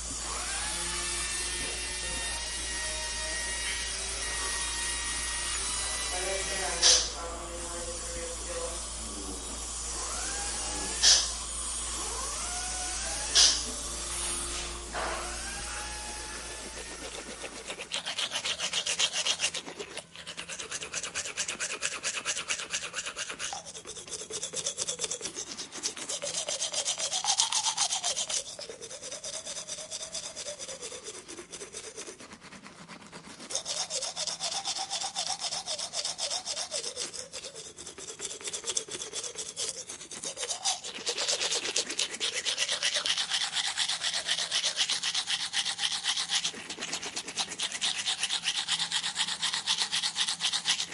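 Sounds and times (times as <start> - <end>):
dental drill rasping scrape: 0.0 - 50.9.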